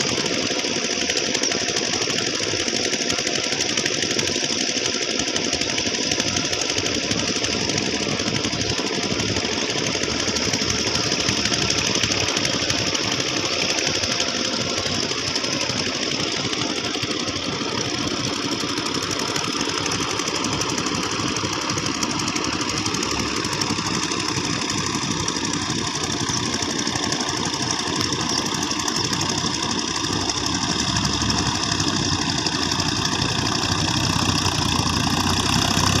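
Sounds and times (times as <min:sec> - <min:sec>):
tractor diesel engine knocking: 0:00.0 - 0:36.0.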